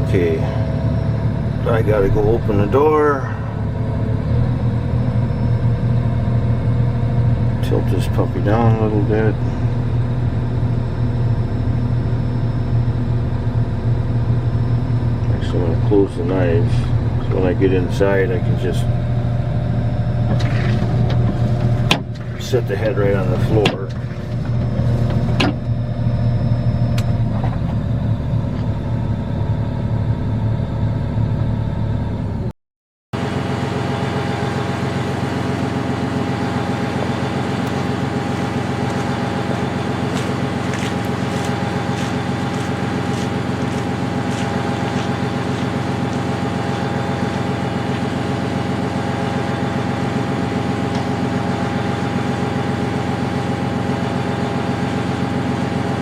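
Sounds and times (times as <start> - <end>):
diesel engine running: 0.0 - 32.5, 33.2 - 56.0
thin steady whine: 0.0 - 32.5, 33.2 - 56.0.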